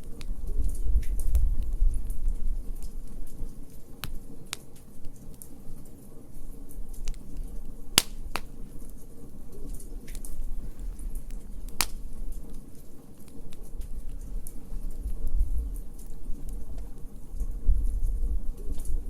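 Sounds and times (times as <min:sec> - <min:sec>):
low rumble of burning: 0:00.0 - 0:19.0
wood fire pops and snaps: 0:00.0 - 0:19.0.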